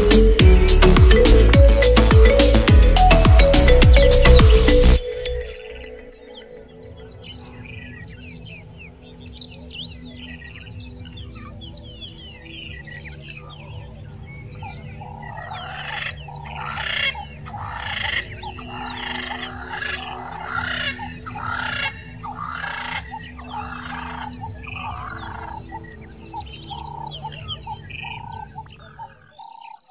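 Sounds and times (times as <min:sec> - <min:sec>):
bird chirps: 0:00.0 - 0:29.9
frogs croaking: 0:05.3 - 0:29.9.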